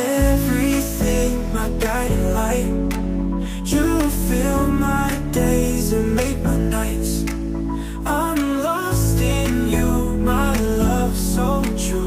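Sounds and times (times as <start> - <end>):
sung love song: 0.0 - 12.0.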